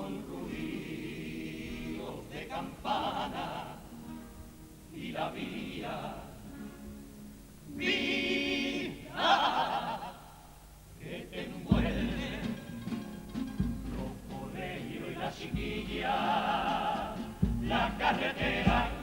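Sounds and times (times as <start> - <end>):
choir singing in harmony: 0.0 - 6.9, 7.6 - 10.3, 11.0 - 13.0, 13.6 - 19.0.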